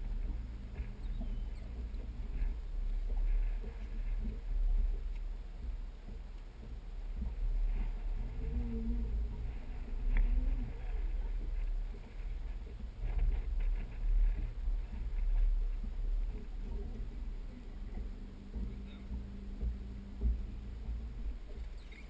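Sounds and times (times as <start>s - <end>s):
low humming tone: 0.0s - 22.0s
water slapping boat hull: 0.0s - 22.0s
wind buffeting microphone: 0.0s - 22.0s.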